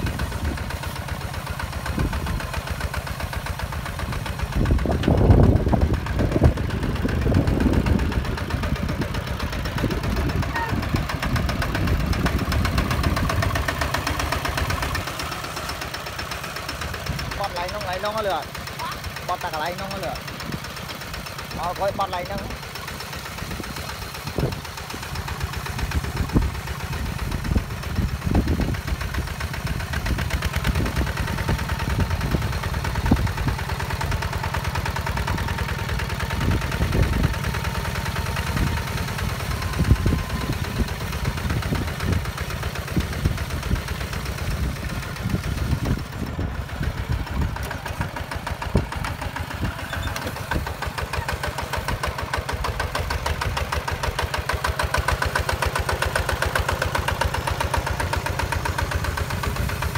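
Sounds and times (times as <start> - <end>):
tractor diesel engine chugging: 0.0 - 59.9.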